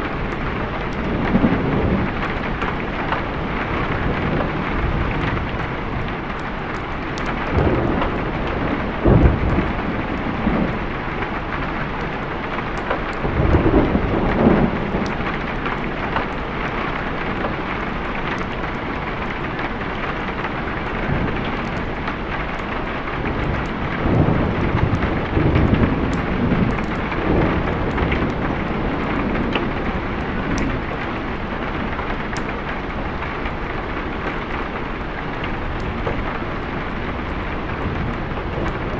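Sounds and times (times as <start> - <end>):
thunder rumbling: 0.0 - 19.5, 20.1 - 38.9
steady rain: 0.0 - 38.9.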